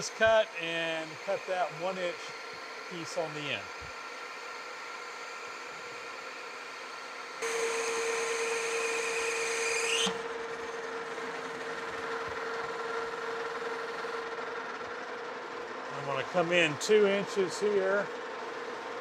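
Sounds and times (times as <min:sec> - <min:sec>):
lathe tool cutting with whine: 0:00.0 - 0:19.0
metal lathe humming: 0:00.0 - 0:19.0.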